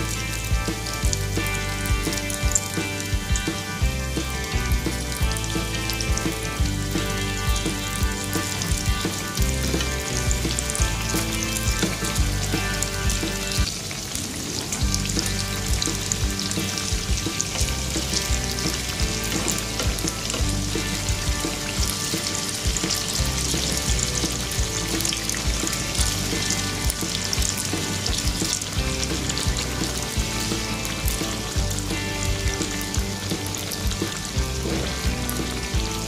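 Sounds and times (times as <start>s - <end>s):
bread deep-frying in oil: 0.0s - 36.0s.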